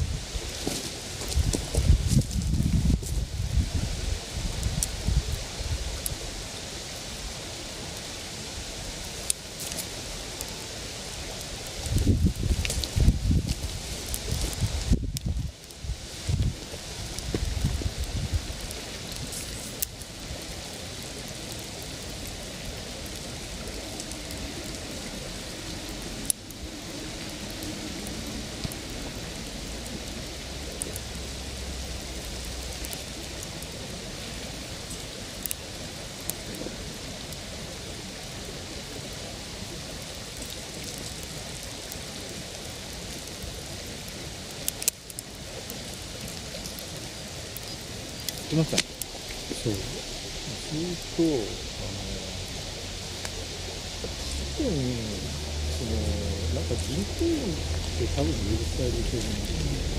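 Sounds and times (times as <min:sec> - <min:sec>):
campfire crackling and popping: 0:00.0 - 0:59.9
campfire rushing hiss: 0:00.0 - 0:59.9.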